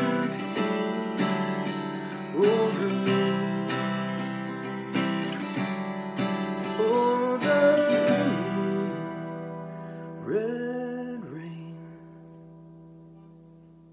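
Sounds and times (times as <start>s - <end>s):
acoustic guitar strumming chords: 0.0s - 13.9s.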